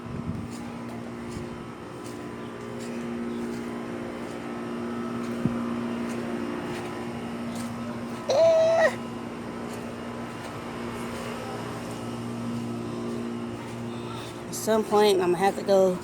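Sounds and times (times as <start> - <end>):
steady motor drone: 0.0 - 16.0.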